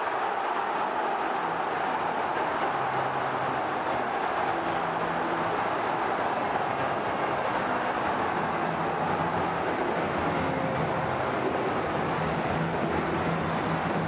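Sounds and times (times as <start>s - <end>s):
stadium crowd din: 0.0s - 14.0s.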